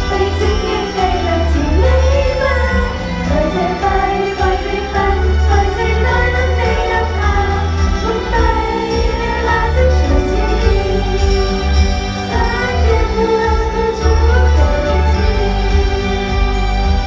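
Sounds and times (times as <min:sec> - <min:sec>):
backing track with heavy bass: 0:00.0 - 0:17.0
group singing pop song: 0:00.0 - 0:17.0.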